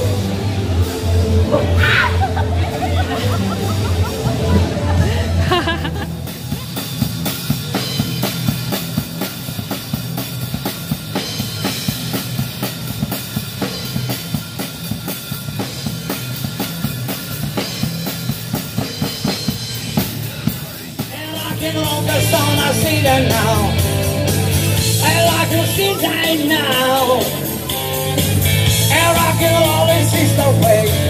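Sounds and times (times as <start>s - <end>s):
drum kit steady beat: 0.0s - 31.0s.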